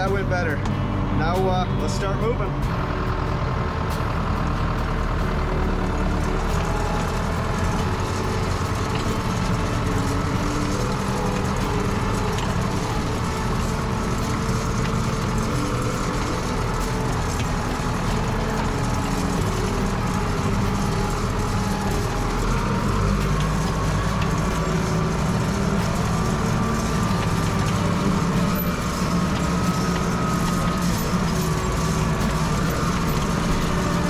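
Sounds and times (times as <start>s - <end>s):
tractor engine under load: 0.0s - 34.0s.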